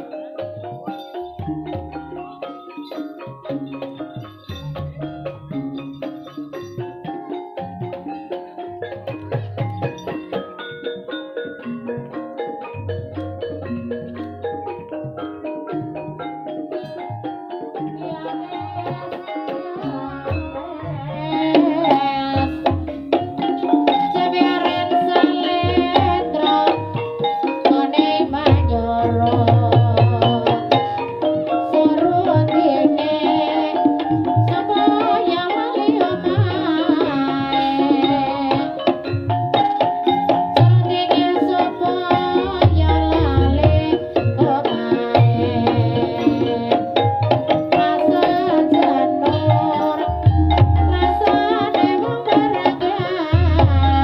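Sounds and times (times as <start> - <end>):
hand drums beating: 0.0 - 54.0
ringing pitched percussion melody: 0.0 - 54.0.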